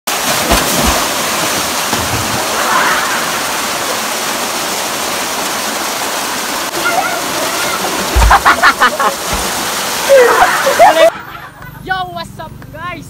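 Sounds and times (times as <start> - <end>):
waterfall pouring over rocks: 0.1 - 11.1.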